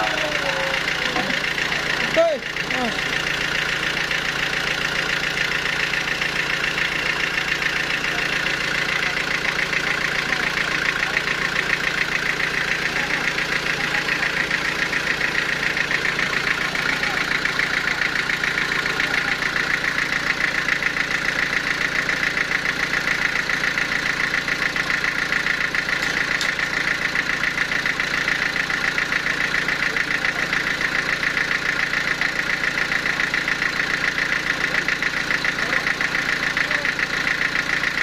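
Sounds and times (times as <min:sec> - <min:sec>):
sawmill machinery droning: 0:00.0 - 0:38.0.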